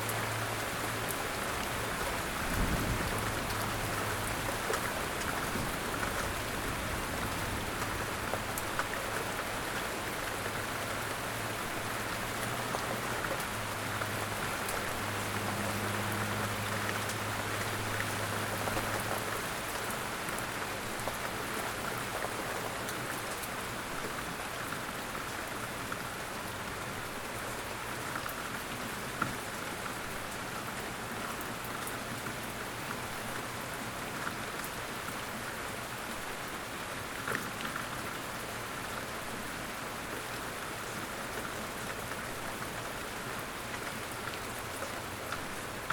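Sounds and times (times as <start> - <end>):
raindrops clicking on a surface: 0.0 - 45.9
steady rain: 0.0 - 45.9.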